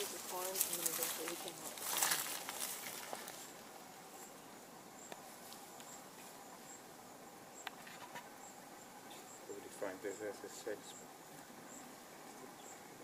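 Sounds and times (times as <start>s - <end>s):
faint hiss: 0.0s - 13.0s
insect chirping: 0.0s - 13.0s.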